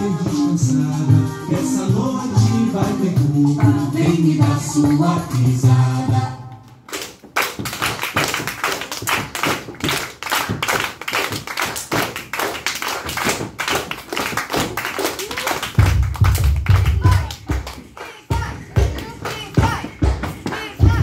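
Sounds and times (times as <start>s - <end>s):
group clapping in rhythm: 0.1s - 21.0s.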